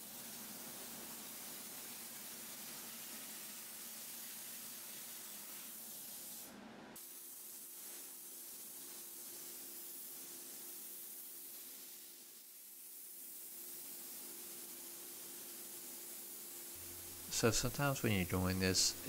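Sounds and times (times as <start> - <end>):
sandblaster nozzle hissing: 0.0 - 19.0.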